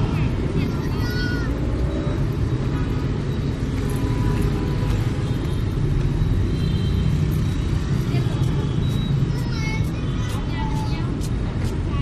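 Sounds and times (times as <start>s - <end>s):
motorbikes and cars passing: 0.0s - 12.0s.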